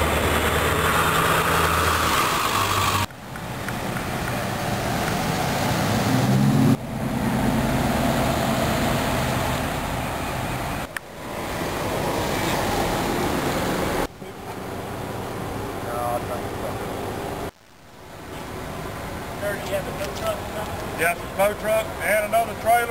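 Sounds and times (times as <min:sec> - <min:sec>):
engine hum: 0:00.0 - 0:22.9
traffic: 0:00.0 - 0:22.9.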